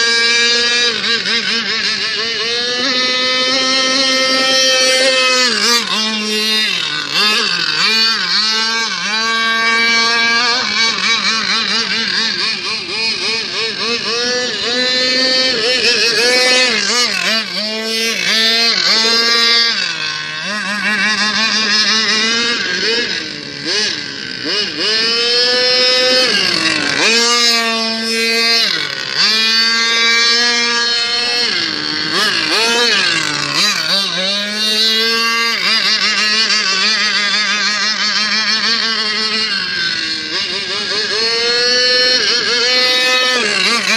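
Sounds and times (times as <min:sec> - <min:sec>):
model boat engine buzzing: 0:00.0 - 0:43.9.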